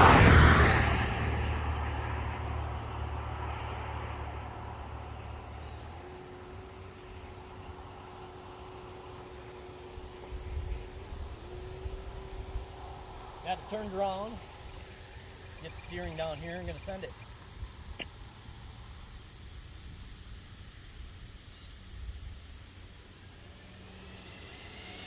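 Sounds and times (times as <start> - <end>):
passing vehicle: 0.0 - 20.2, 22.0 - 25.0
insects chirping: 0.0 - 25.0.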